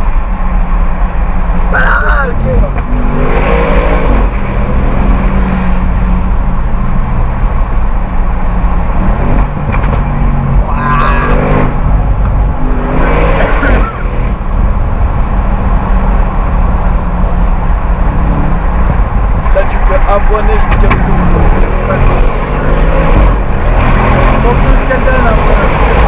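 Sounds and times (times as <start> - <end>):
car engine accelerating hard: 0.0 - 26.0.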